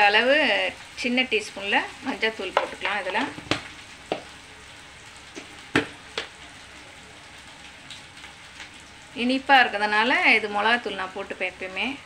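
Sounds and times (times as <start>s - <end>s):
pot of water hissing on stove: 0.0s - 12.0s.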